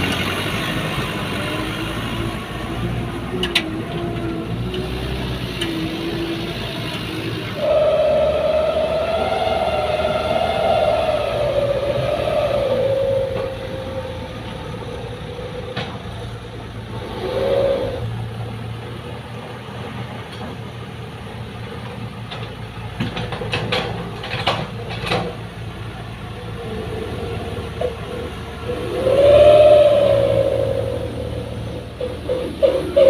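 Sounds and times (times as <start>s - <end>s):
diesel engine whining under load: 0.0s - 33.0s.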